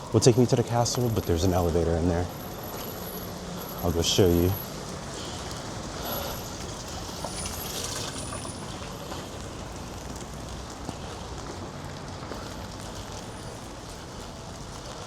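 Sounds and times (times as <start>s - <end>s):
street ambience hiss: 0.0s - 15.0s.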